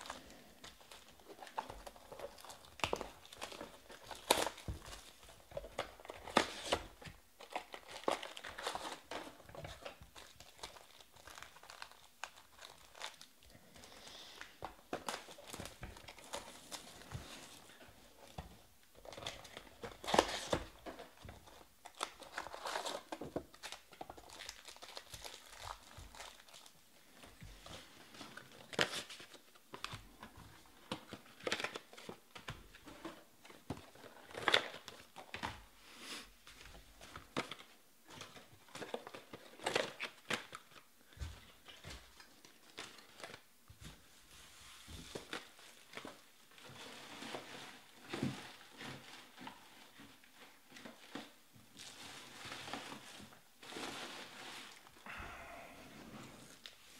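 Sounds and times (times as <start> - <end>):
plastic wrapping crinkling and tearing: 0.0 - 35.7, 36.4 - 55.7
plastic-wrapped packs rustling: 0.0 - 35.7, 36.4 - 55.8.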